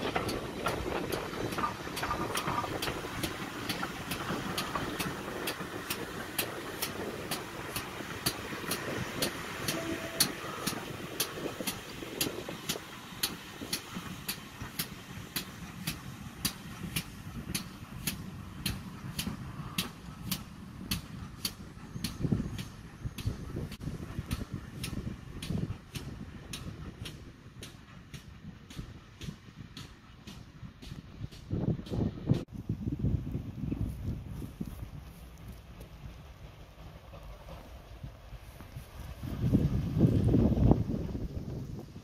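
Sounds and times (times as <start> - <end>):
train engine rumble: 0.0 - 42.0.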